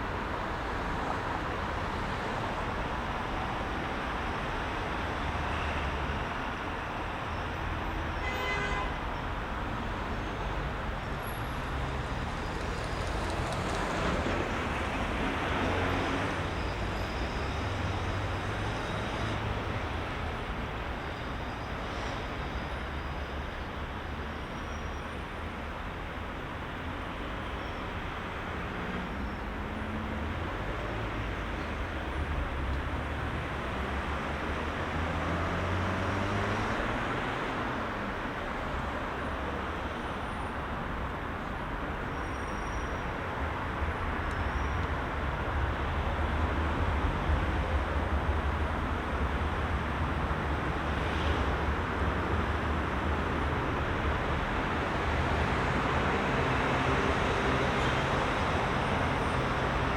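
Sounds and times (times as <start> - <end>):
city traffic: 0.0 - 59.9.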